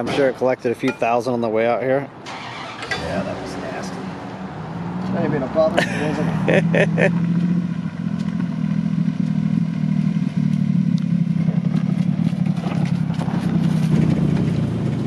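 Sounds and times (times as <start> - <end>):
truck engines running low: 2.2 - 15.0.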